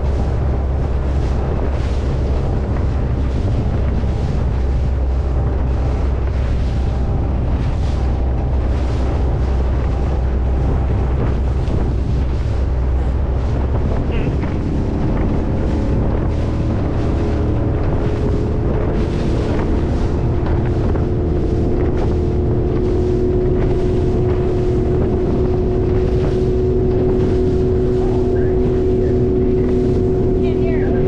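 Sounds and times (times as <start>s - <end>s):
speedboat engine running: 0.0s - 31.0s
wind buffeting microphone: 0.0s - 31.0s.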